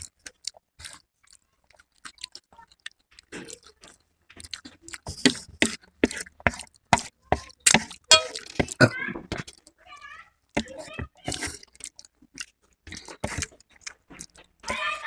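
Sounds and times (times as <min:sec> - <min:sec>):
close chewing and mouth smacking: 0:00.0 - 0:15.0.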